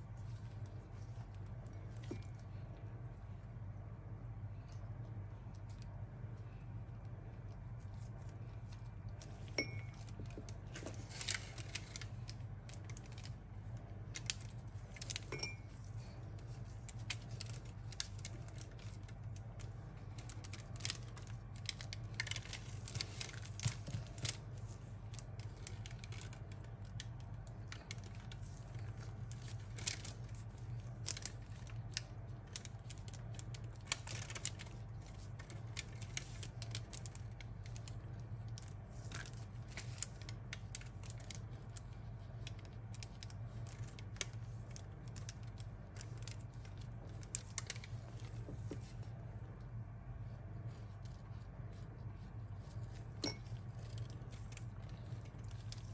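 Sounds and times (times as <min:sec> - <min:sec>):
pastry and paper rustling: 0:00.0 - 0:55.9
steady low hum: 0:00.0 - 0:55.9.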